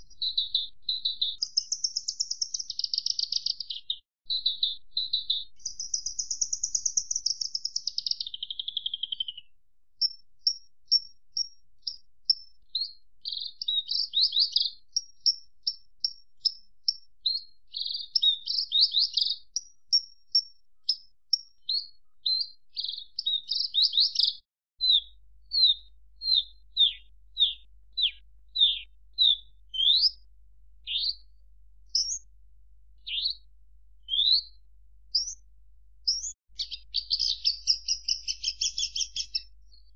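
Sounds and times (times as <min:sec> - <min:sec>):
lark singing: 0:00.0 - 0:32.3, 0:33.0 - 0:35.4, 0:36.0 - 0:39.9.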